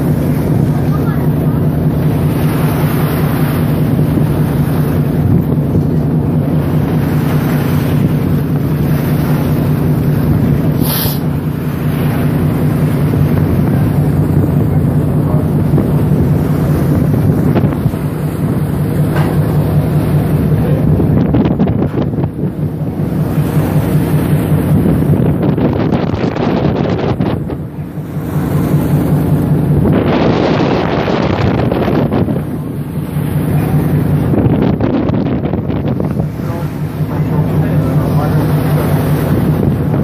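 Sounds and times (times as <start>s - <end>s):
ferry engines droning: 0.0s - 40.0s
wind on microphone: 0.0s - 40.0s.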